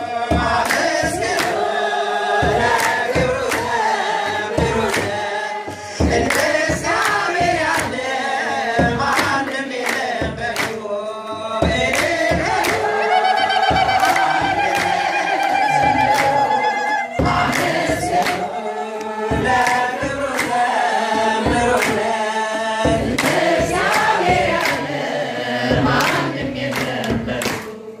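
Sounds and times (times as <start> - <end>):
hand drum beat: 0.0 - 27.7
choir singing a hymn: 0.0 - 28.0
hand clapping: 0.1 - 27.9.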